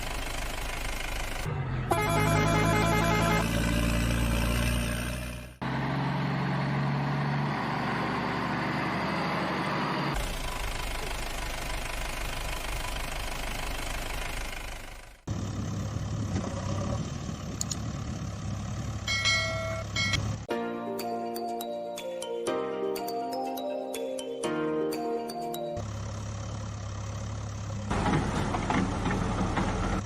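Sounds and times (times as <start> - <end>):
engine running: 0.0 - 20.5, 25.8 - 30.0.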